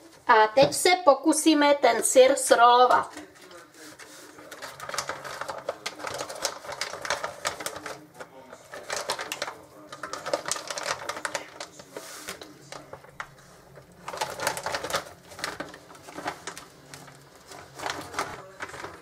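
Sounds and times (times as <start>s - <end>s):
baking paper crinkling: 2.0s - 19.0s.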